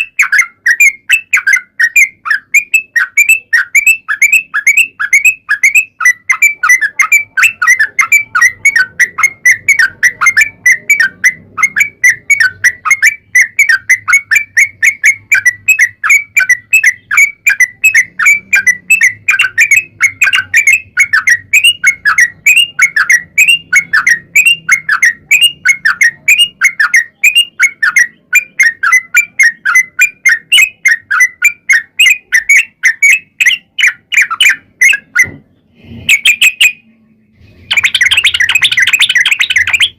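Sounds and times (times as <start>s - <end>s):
bird rapid repeated chirping: 0.0s - 39.9s.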